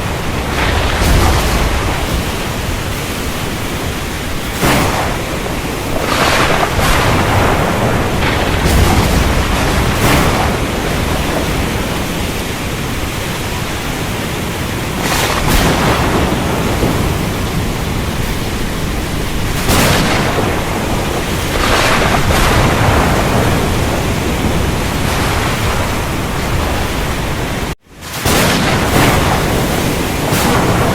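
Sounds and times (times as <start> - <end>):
low rolling thunder: 0.0 - 30.9
rain: 0.0 - 30.9.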